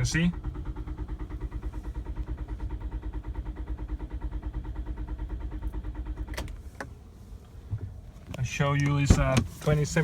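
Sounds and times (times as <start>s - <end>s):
starter motor cranking engine: 0.0s - 10.0s.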